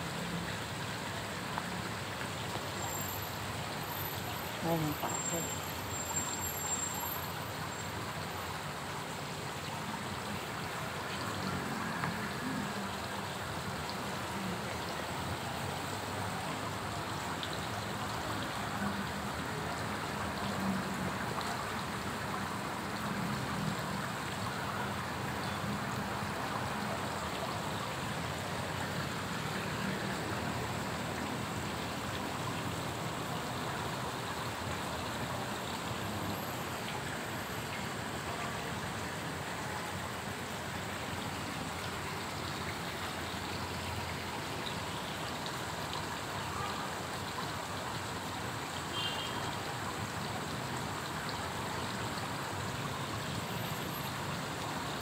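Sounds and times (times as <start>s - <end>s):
water running and splashing: 0.0s - 55.0s.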